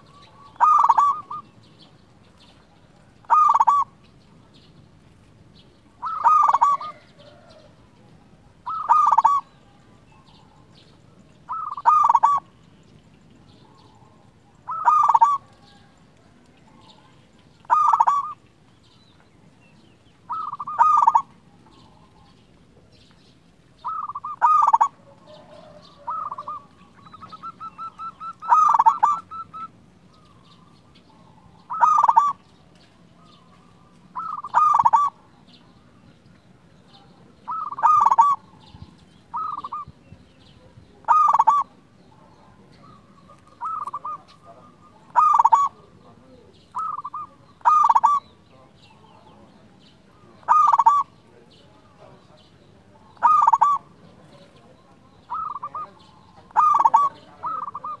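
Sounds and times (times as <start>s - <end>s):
dove cooing: 0.0s - 4.2s, 5.8s - 12.6s, 13.4s - 18.6s, 20.1s - 22.4s, 23.8s - 35.9s, 37.0s - 49.4s, 50.1s - 58.0s.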